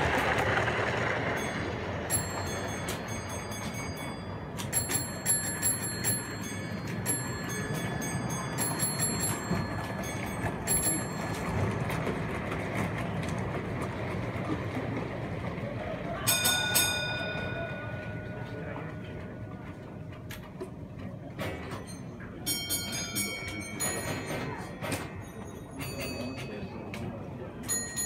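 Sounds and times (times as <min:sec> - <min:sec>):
model train wheels on rail: 0:00.0 - 0:28.0.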